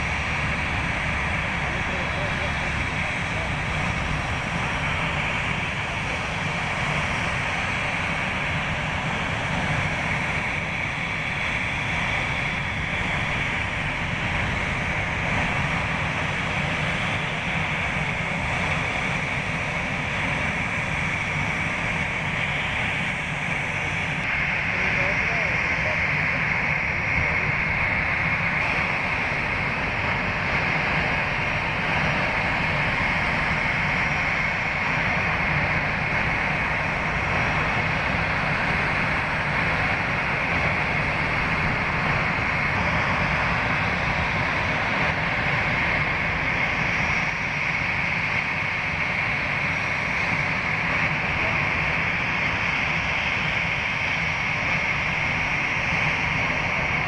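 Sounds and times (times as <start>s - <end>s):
jet engine rumble: 0.0s - 57.0s
jet engine whine: 0.0s - 57.0s.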